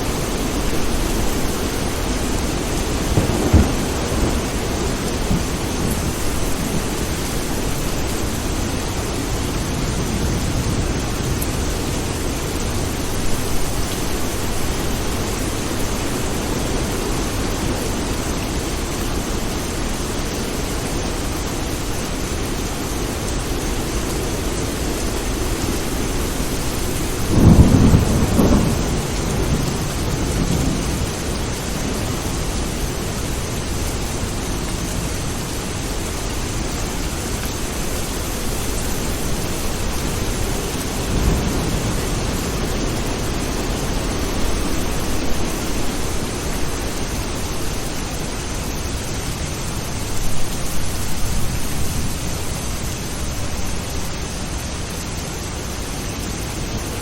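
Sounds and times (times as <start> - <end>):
thunder rumbling: 0.0 - 19.9, 24.2 - 35.3, 36.2 - 54.0
steady rain: 0.0 - 57.0.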